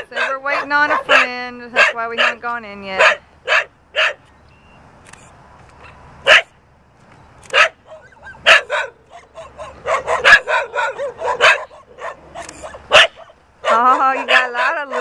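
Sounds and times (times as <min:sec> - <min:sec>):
dogs barking: 0:00.0 - 0:04.2, 0:05.8 - 0:06.5, 0:07.5 - 0:15.0.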